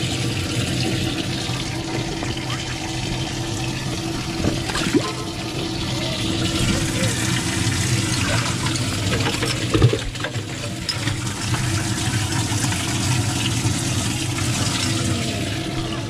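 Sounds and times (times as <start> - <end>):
low motor hum: 0.0 - 16.0
water running and splashing: 0.0 - 16.0.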